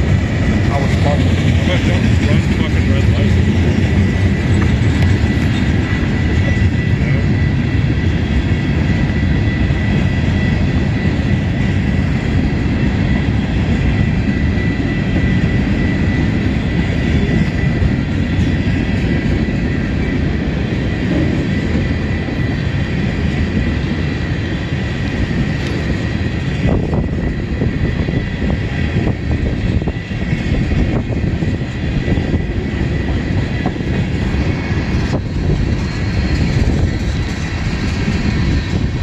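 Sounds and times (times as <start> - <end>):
freight train wheels rumbling on rail: 0.0 - 39.0.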